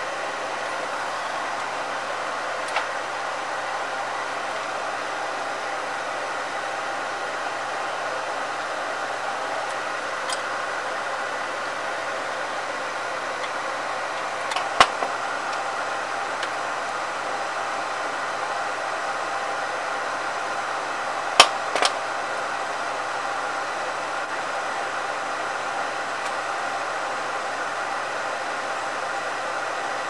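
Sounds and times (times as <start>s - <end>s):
faint hum: 0.0s - 30.0s
fan-like rushing noise: 0.0s - 30.0s.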